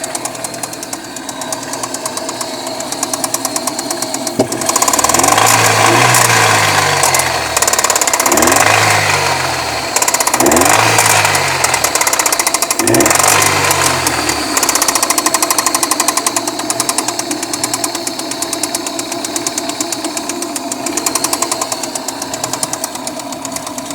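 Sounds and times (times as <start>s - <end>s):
car engine revving and knocking: 0.0s - 23.9s.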